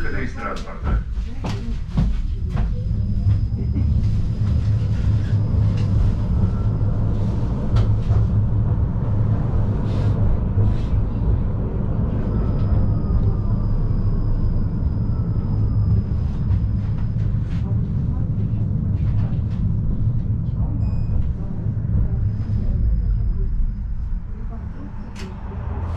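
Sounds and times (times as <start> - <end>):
tram wheels rumbling on rail: 0.0 - 25.9.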